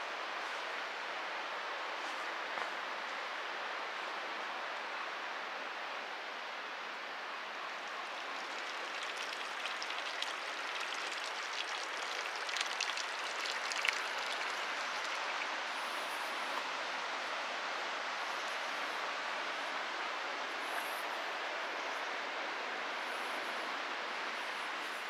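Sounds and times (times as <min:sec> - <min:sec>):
flowing water rushing: 0:00.0 - 0:20.4.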